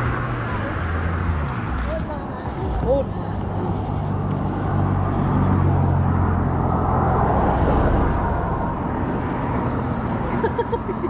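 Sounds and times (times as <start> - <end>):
outdoor background noise: 0.0 - 11.0
vehicle engine humming: 0.0 - 11.0.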